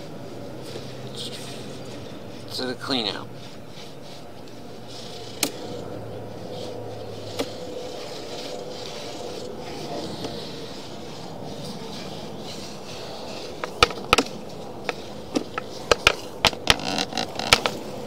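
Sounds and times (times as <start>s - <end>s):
cable scraping in sewer pipe: 1.8s - 17.8s.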